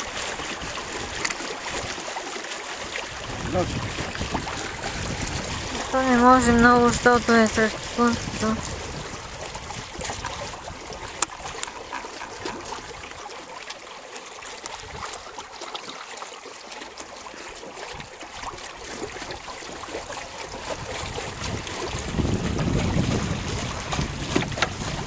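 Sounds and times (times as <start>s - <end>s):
water splashing along a hull: 0.0s - 25.0s.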